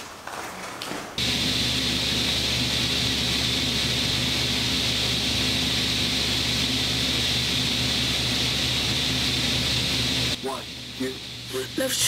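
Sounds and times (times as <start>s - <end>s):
workshop machinery hum and hiss: 1.2s - 12.0s.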